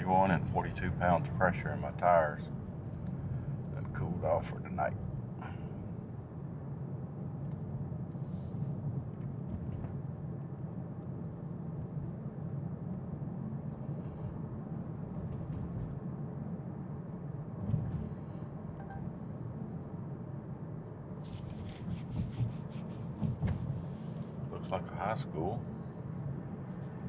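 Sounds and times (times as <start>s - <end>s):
road and tyre rumble: 0.0s - 27.0s.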